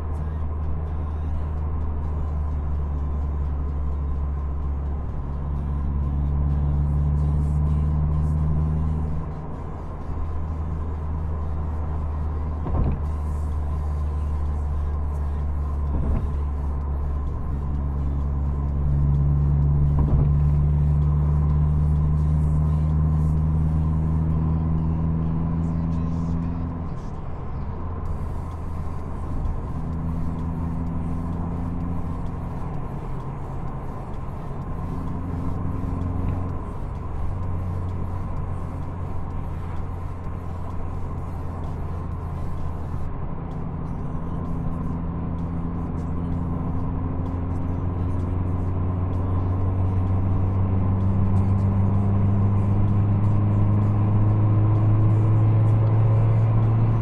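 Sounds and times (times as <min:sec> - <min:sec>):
car engine drone: 0:00.0 - 0:57.0
road noise: 0:00.0 - 0:57.0.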